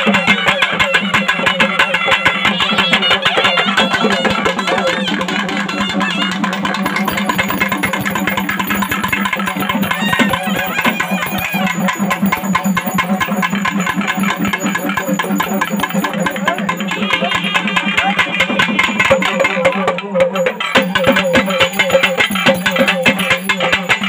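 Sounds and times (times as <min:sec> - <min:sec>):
loud music with rapid beat: 0:00.0 - 0:24.0.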